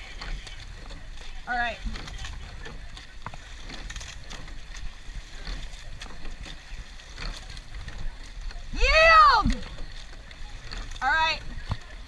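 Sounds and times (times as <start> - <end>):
oars clunking in oarlocks: 0.0 - 12.0
water rushing and splashing: 0.0 - 12.0.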